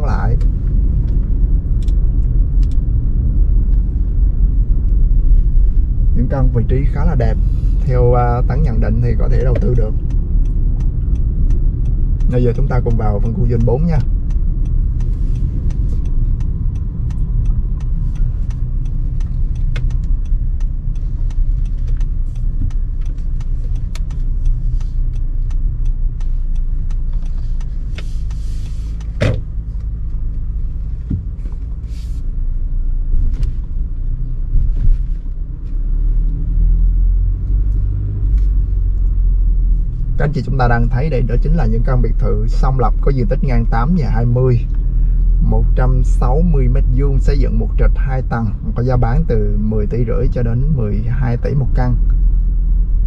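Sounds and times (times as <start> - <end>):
car road noise rumble: 0.0 - 53.0.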